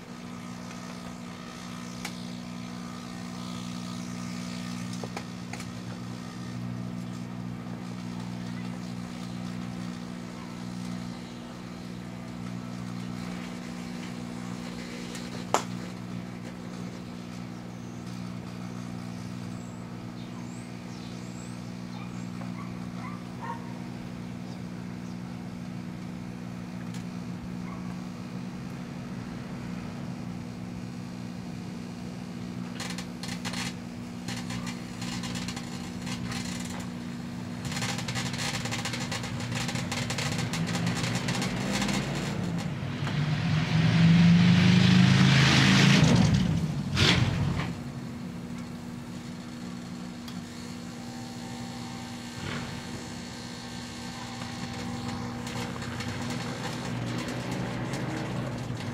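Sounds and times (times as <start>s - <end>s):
crackling of arcing bulbs: 0.0s - 27.6s, 31.7s - 43.2s, 45.7s - 58.9s
microwave ovens humming: 0.0s - 58.9s.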